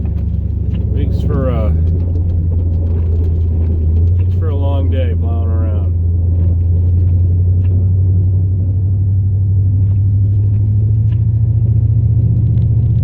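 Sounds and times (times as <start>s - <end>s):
truck engine drone from cab: 0.0s - 13.0s.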